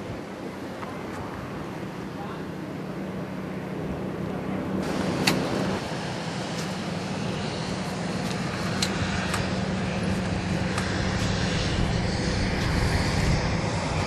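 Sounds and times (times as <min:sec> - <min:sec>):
engine hum: 0:00.0 - 0:14.0.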